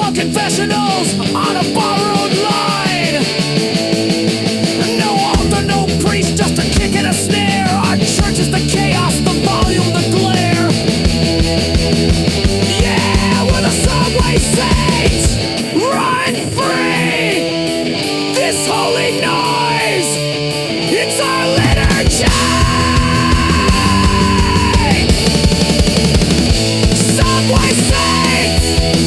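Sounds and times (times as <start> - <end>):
distorted punk rock guitars and drums: 0.0 - 29.0
sliding guitar lead line: 0.0 - 29.0.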